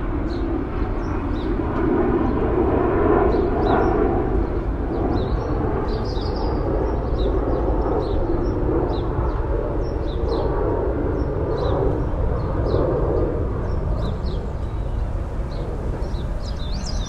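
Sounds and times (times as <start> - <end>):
low city rumble: 0.0 - 17.0.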